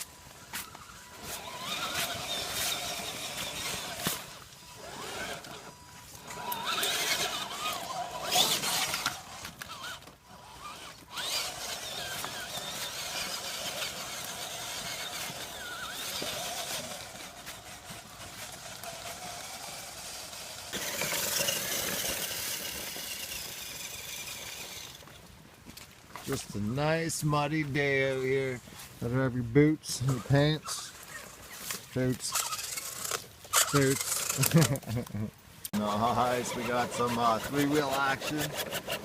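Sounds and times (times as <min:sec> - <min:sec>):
rc car motor whining: 0:00.0 - 0:25.2, 0:30.1 - 0:34.8, 0:35.8 - 0:39.0.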